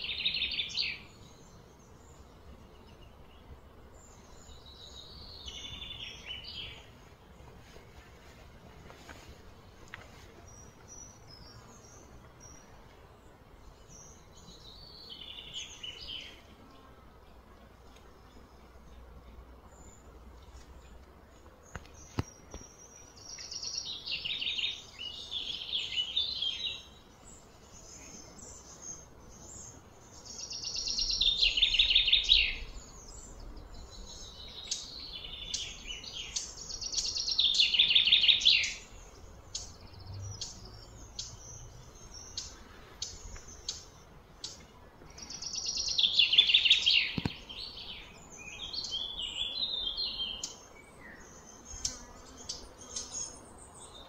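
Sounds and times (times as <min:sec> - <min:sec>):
soft bird chirps: 0:07.6 - 0:54.0.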